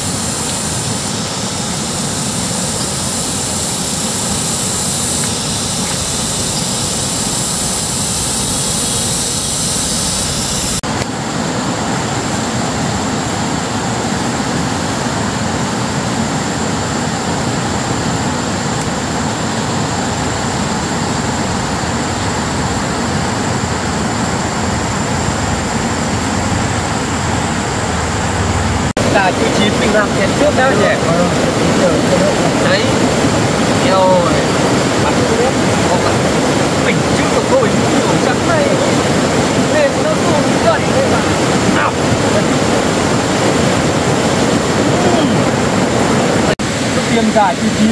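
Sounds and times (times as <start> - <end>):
fast river rushing: 0.0 - 47.9.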